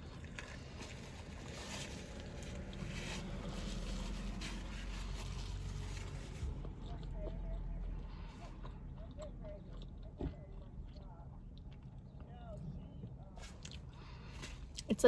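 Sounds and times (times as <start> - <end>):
wet chewing sounds: 0.0 - 14.9.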